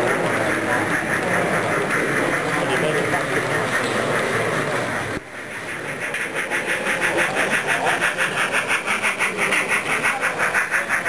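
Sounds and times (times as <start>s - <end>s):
model train rhythmic beat: 0.0s - 11.0s.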